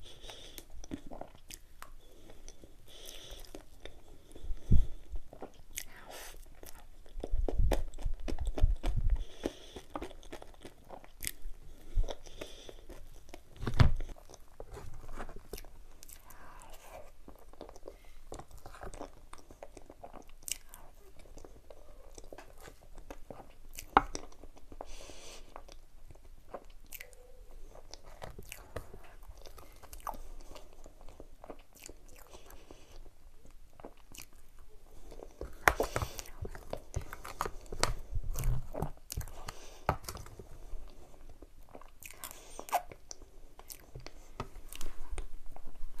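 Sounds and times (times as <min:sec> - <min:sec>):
chewing: 0:00.1 - 0:04.5, 0:05.3 - 0:45.6.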